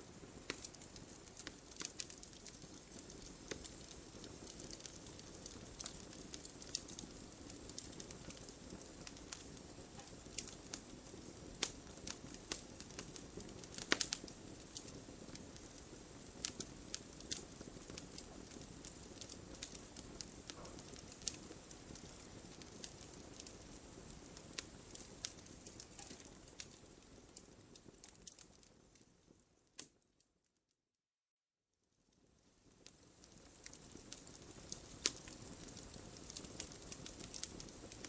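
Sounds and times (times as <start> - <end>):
wood fire crackling: 0.0 - 30.2, 32.1 - 38.0.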